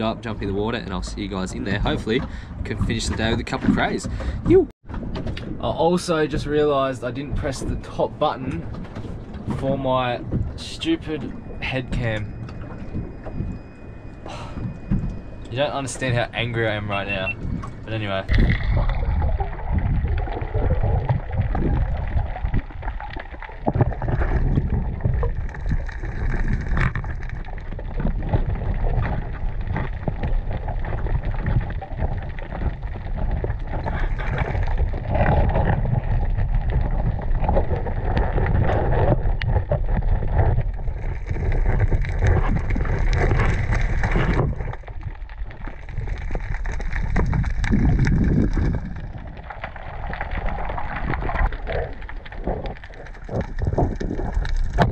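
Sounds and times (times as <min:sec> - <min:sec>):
muffled underwater rumble and gurgling: 0:00.0 - 0:54.9
bubbles: 0:05.4 - 0:54.9.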